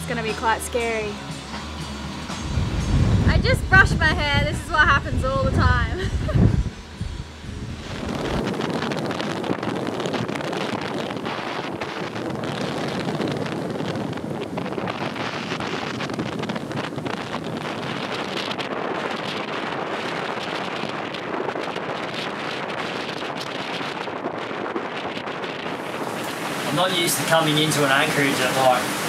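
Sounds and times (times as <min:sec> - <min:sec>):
water rushing past hull: 0:00.0 - 0:29.0
wind buffeting microphone: 0:00.0 - 0:29.0.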